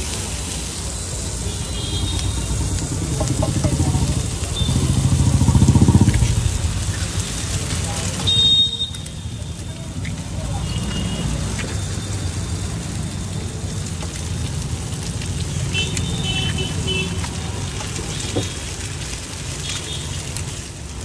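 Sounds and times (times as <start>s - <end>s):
eggs and onions sizzling on griddle: 0.0s - 21.0s
low rumble of street traffic: 0.0s - 21.0s.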